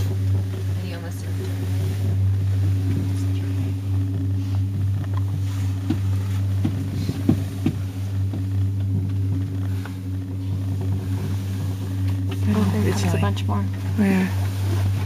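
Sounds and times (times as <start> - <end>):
aerial tram cabin hum: 0.0 - 15.0.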